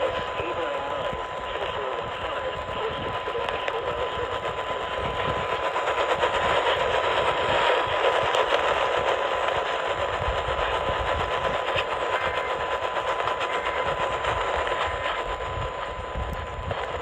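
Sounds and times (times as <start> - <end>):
radio static hiss and crackling: 0.0 - 17.0.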